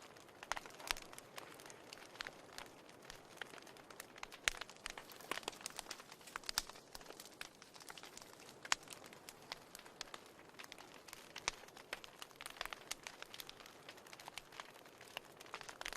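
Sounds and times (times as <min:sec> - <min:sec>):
wood fire crackling and popping: 0:00.0 - 0:15.9.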